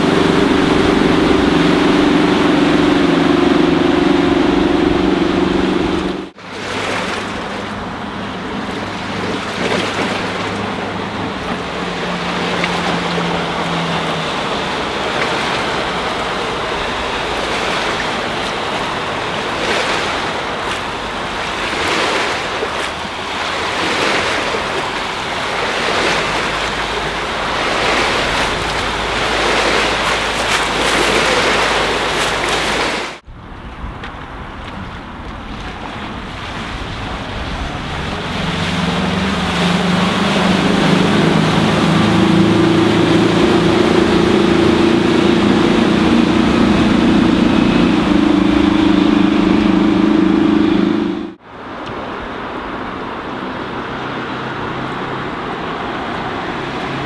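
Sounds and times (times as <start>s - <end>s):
boat engine drone: 0.0s - 57.0s
waves washing: 0.0s - 57.0s
wind buffeting microphone: 0.0s - 57.0s.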